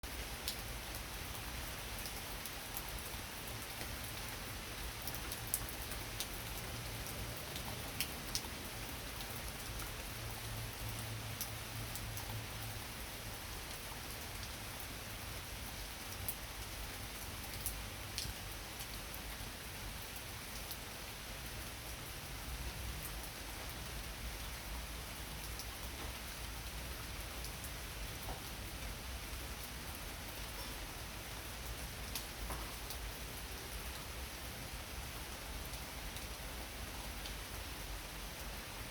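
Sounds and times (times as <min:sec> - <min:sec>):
rain on leaves: 0:00.0 - 0:38.9.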